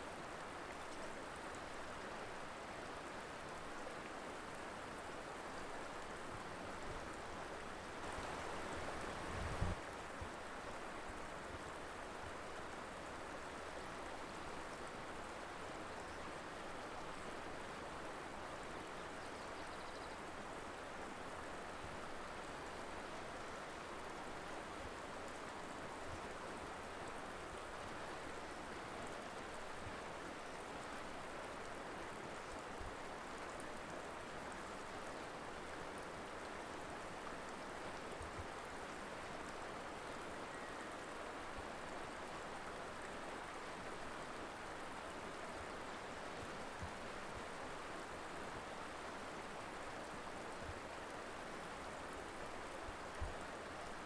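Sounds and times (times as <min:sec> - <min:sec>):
river flowing: 0:00.1 - 0:19.2, 0:20.2 - 0:54.0.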